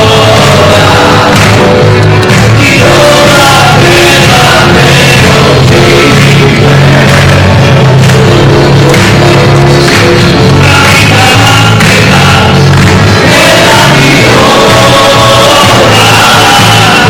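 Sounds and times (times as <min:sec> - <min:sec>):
man singing into microphone: 0:00.0 - 0:08.7, 0:10.2 - 0:17.0
worship band music: 0:00.0 - 0:17.0.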